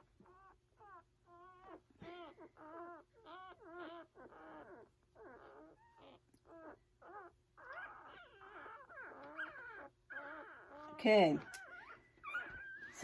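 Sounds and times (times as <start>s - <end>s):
puppies whimpering: 0.0s - 13.0s.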